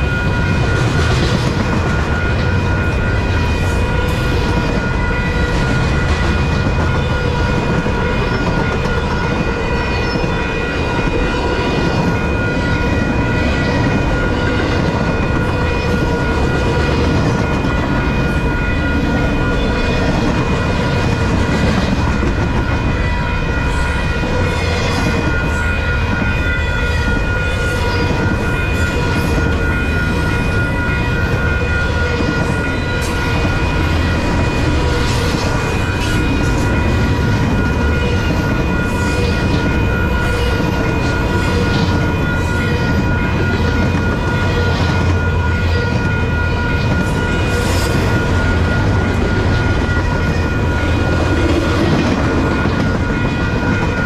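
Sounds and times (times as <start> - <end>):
steady ringing tones: 0.0 - 54.0
train wheels rumbling on rail: 0.0 - 54.0.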